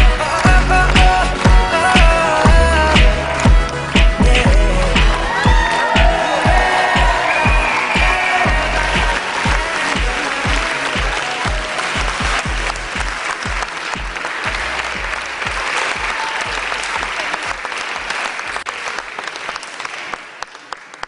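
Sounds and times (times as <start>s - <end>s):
music with bass beat: 0.0s - 17.0s
audience applauding: 0.0s - 21.0s.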